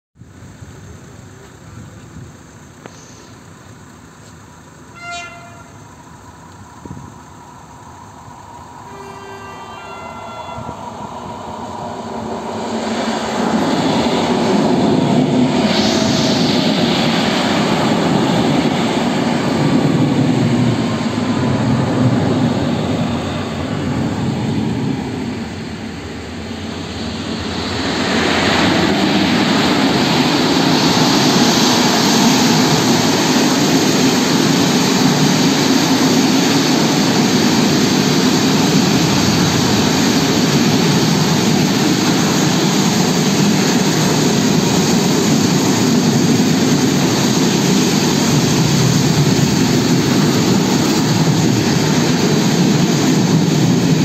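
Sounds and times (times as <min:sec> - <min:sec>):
electric train passing: 0:00.2 - 0:54.0
freight train passing: 0:00.2 - 0:54.0.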